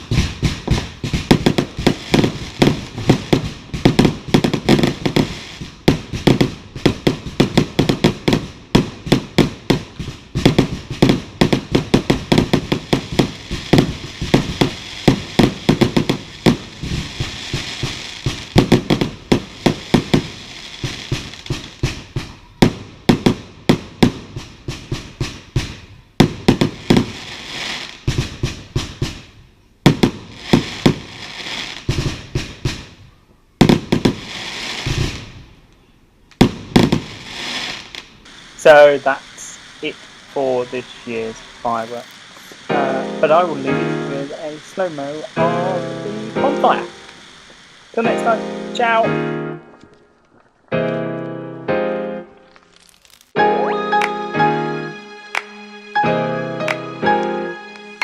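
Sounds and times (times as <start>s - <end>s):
fireworks banging: 0.0s - 35.7s, 36.3s - 58.0s.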